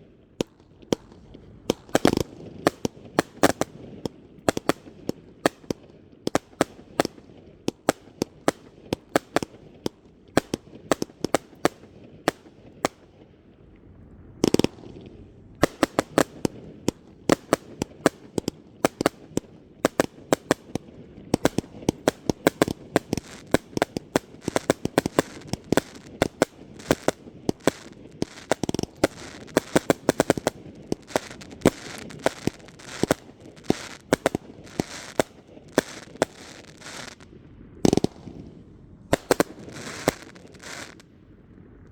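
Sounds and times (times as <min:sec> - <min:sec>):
fireworks popping and crackling: 0:00.0 - 0:13.2, 0:14.4 - 0:41.1.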